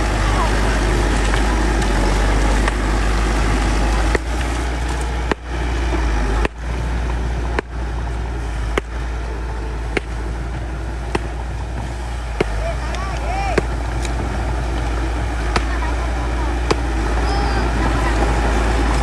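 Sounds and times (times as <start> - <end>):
bulldozer diesel engine rumbling: 0.0 - 19.0.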